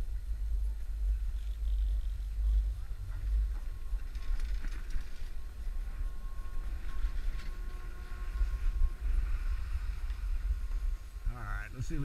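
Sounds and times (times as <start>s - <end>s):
faint steady whine: 0.0s - 12.0s
wind rumbling on microphone: 0.0s - 12.0s.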